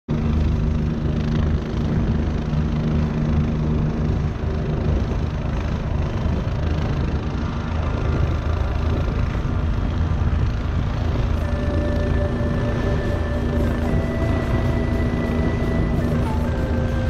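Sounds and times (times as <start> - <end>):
helicopter rotor and engine drone: 0.1 - 17.0.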